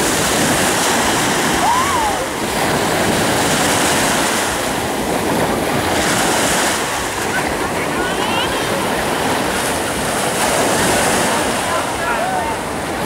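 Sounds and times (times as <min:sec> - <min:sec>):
ocean surf washing in: 0:00.0 - 0:13.0
wind on microphone: 0:00.0 - 0:13.0.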